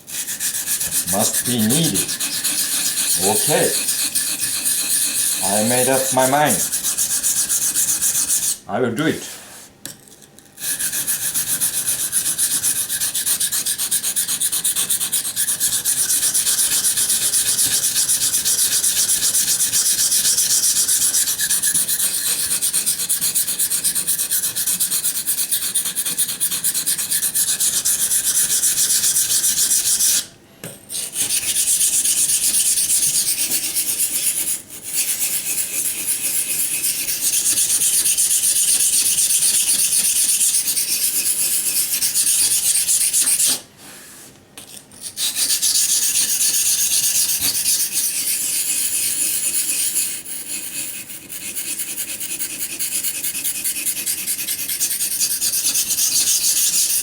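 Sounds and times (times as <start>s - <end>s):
knife scraping on whetstone: 0.0s - 8.6s, 9.3s - 30.3s, 30.9s - 57.0s.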